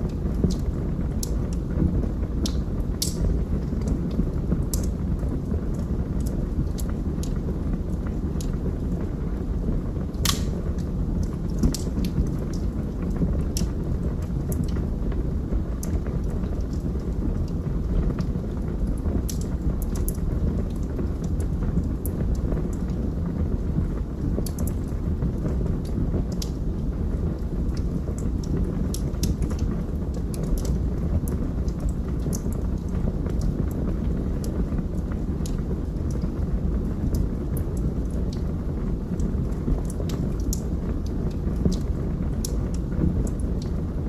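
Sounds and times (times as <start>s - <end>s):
fire crackles and pops: 0.0s - 44.0s
rush of flames: 0.0s - 44.0s
wood fire rumbling: 0.0s - 44.0s.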